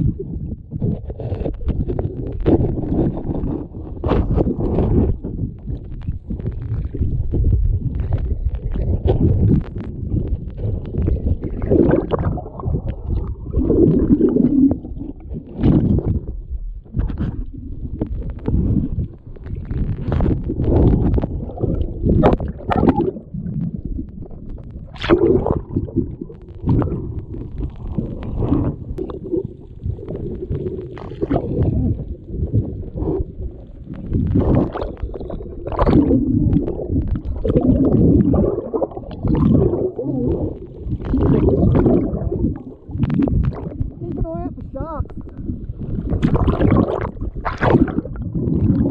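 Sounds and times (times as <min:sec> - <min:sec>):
underwater rumbling and gurgling: 0:00.0 - 0:48.9.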